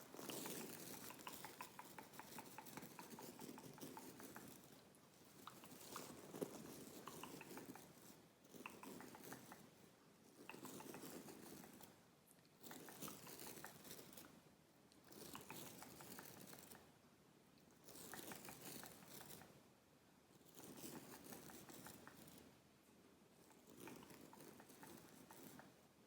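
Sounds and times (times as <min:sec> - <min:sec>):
scratching and crinkling on pillow: 0:00.0 - 0:12.0, 0:12.6 - 0:17.0, 0:17.8 - 0:19.6, 0:20.4 - 0:22.6, 0:23.4 - 0:25.9.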